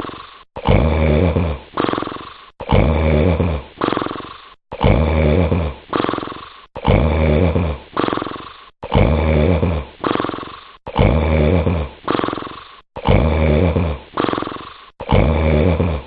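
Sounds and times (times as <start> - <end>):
loud snoring: 0.0 - 16.0.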